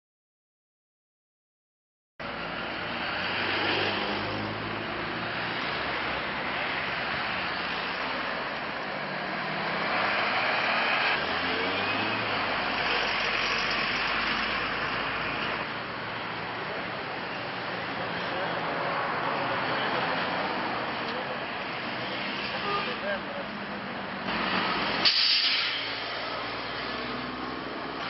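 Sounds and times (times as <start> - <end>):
vehicle engine and tyre noise: 2.2 - 28.0.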